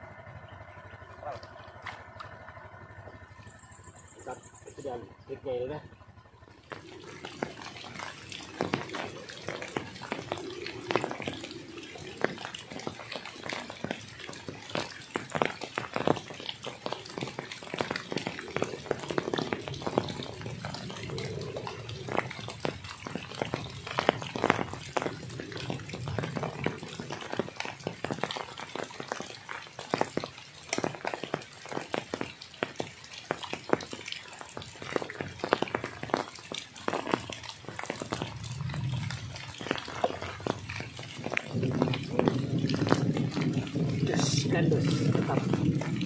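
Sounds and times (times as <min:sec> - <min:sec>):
rain hissing on water: 0:00.0 - 0:46.0
raindrop hits close to microphone: 0:00.1 - 0:46.0.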